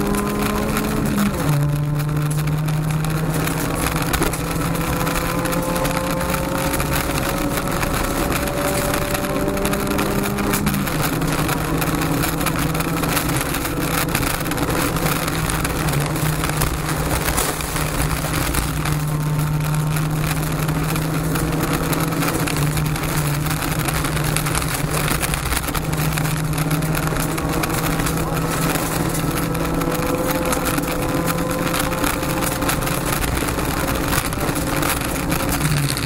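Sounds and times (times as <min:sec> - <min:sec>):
car engine under full throttle: 0:00.0 - 0:36.0
tyre and road noise: 0:00.0 - 0:36.0.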